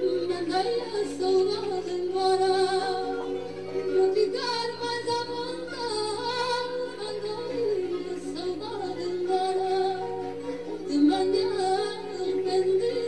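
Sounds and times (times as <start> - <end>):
background music: 0.0 - 13.0
person singing long gliding notes: 0.0 - 13.0.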